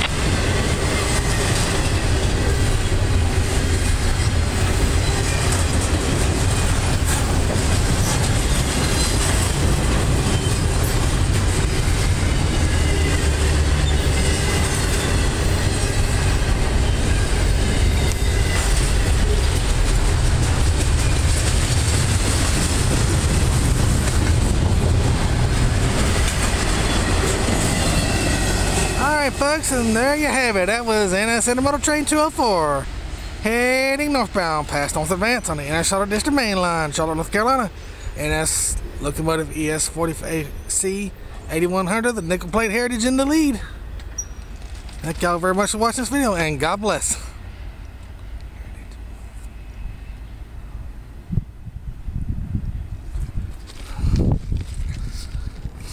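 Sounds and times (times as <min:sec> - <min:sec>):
clickety-clack over rail joints: 0:00.0 - 0:49.6
train wheels rumbling on rail: 0:00.0 - 0:55.9.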